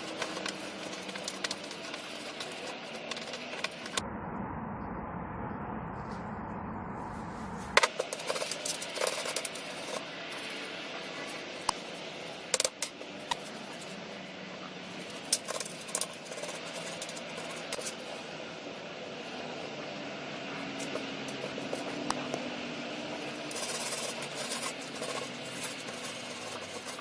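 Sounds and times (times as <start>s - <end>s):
low machine drone: 0.0s - 27.0s.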